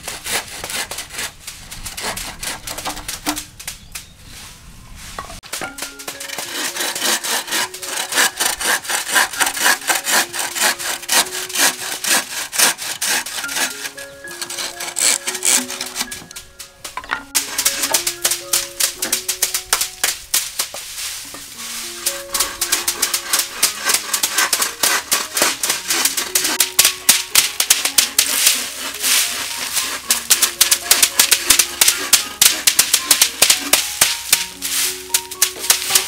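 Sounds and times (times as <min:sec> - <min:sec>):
background music with melody: 0:05.4 - 0:36.0
sticks beating dried bean pods: 0:05.4 - 0:36.0.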